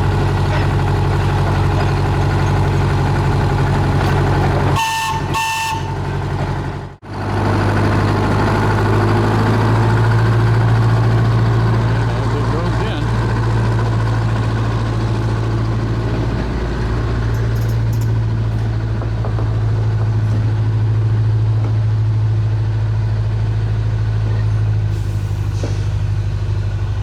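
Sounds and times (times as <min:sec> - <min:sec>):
engine running with low hum: 0:00.0 - 0:27.0.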